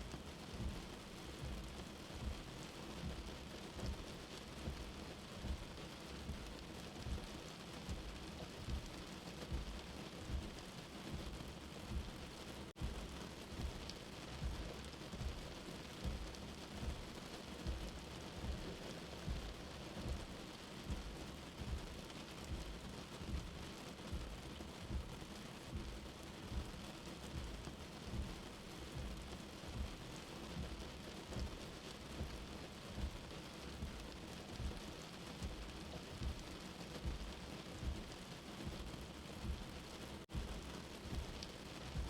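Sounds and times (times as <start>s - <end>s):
steady rain: 0.0s - 42.0s
low heartbeat thumping: 0.1s - 42.0s.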